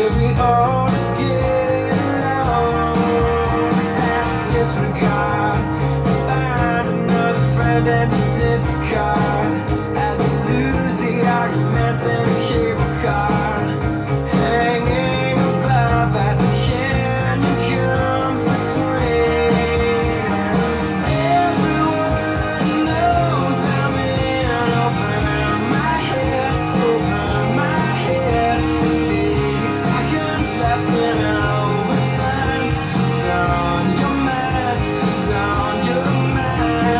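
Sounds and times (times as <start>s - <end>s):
song with guitar and singing: 0.0s - 36.9s.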